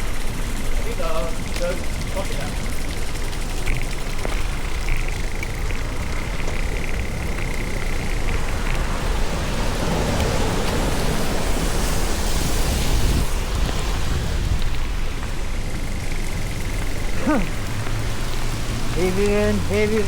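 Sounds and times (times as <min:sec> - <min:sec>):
heavy rain hissing: 0:00.0 - 0:20.0
wind rumbling on microphone: 0:00.0 - 0:20.0.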